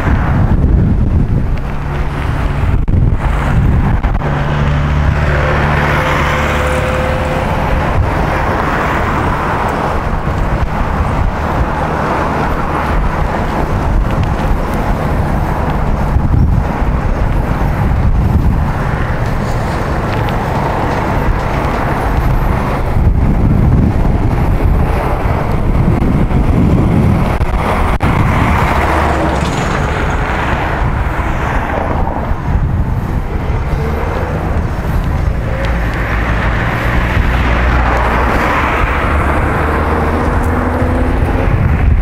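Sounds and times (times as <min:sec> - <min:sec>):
road and wind noise: 0:00.0 - 0:42.0.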